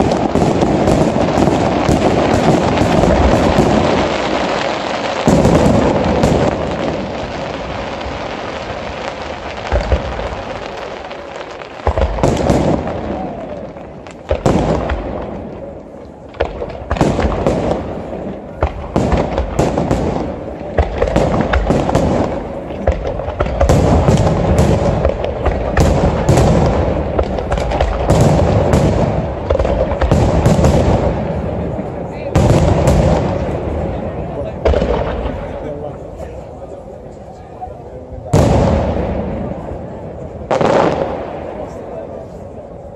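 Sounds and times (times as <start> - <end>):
fireworks bursting with bangs: 0.0 - 42.9
fireworks rumble and crackle: 0.0 - 42.9.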